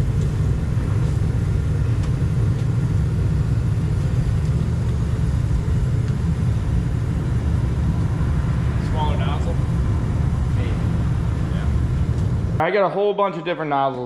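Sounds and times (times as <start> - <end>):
pressure washer burner rumbling: 0.0 - 13.8.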